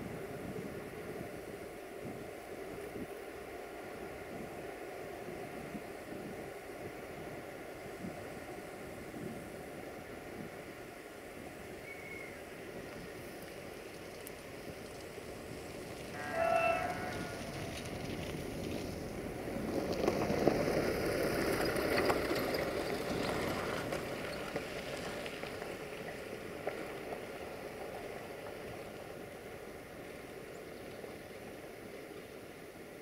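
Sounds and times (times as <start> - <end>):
diesel train rumbling: 0.0 - 33.0.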